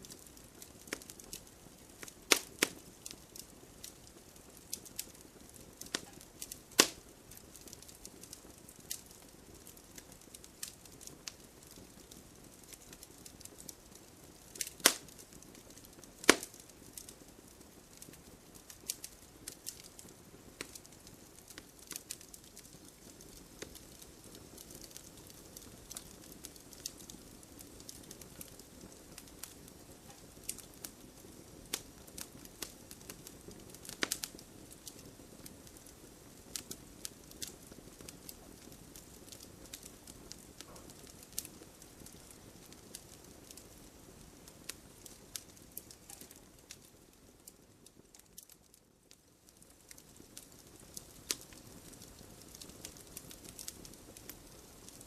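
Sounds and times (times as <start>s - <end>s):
loud pops from fire: 0.0s - 48.8s, 49.5s - 55.0s
wood fire crackling: 0.0s - 55.0s.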